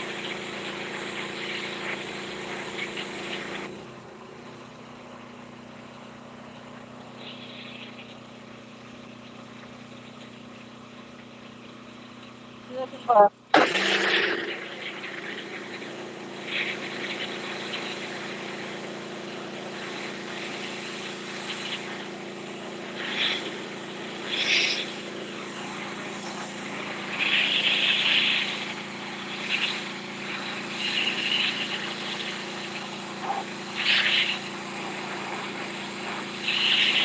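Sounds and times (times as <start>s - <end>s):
pressure washer spraying concrete: 0.0s - 37.0s.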